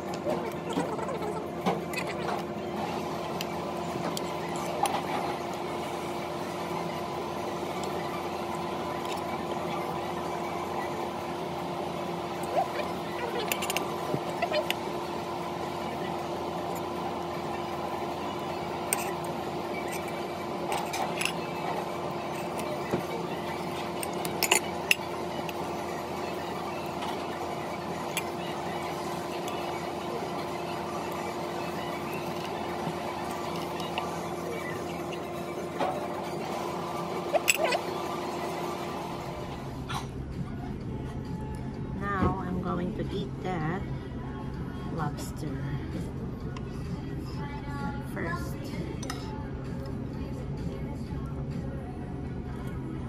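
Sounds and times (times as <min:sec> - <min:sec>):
mechanical room hum: 0:00.0 - 0:53.0.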